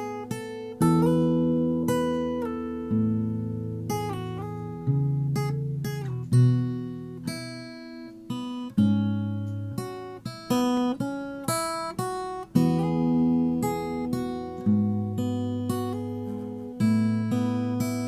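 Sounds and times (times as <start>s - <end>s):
acoustic guitar plucking: 0.0s - 18.0s.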